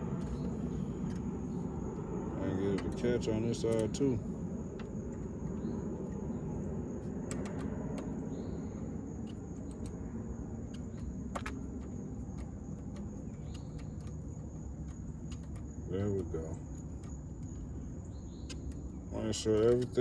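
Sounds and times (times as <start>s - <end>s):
insect drone: 0.0s - 20.0s
low outdoor rumble: 0.0s - 20.0s.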